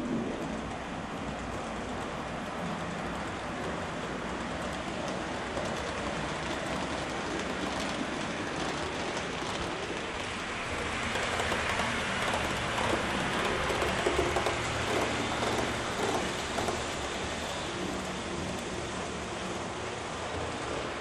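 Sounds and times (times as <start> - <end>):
model train wheels on rails: 0.0 - 21.0.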